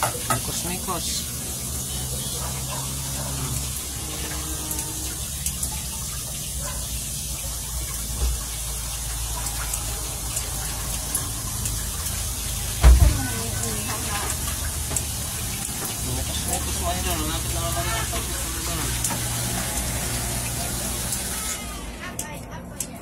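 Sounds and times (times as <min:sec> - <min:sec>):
water running and splashing in sink: 0:00.0 - 0:22.4.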